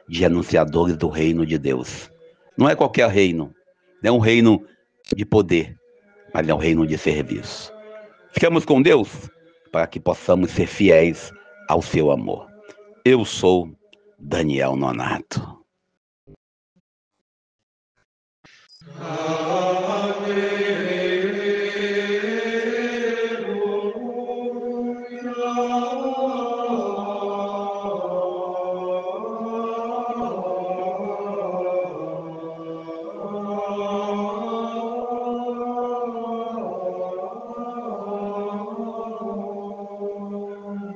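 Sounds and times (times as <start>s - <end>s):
chanted singing: 0.0s - 15.5s, 18.6s - 40.9s.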